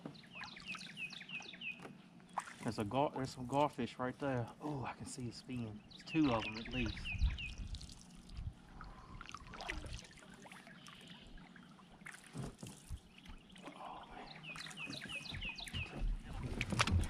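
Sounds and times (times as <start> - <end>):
water trickling and lapping: 0.0 - 17.0.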